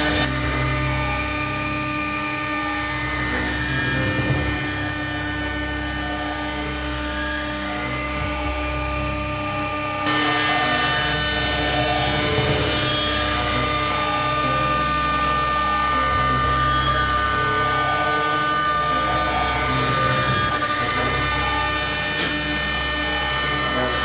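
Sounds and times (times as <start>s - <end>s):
cnc router spindle whine: 0.0s - 24.0s.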